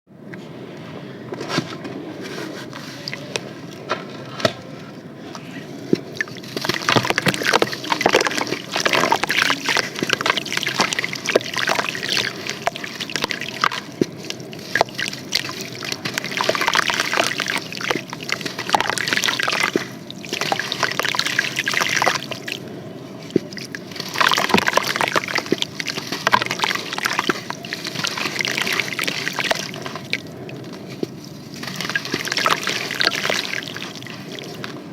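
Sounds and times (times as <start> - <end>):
water sloshing and trickling: 2.2 - 34.9
sand crumbling in water: 6.0 - 22.6, 23.3 - 34.8.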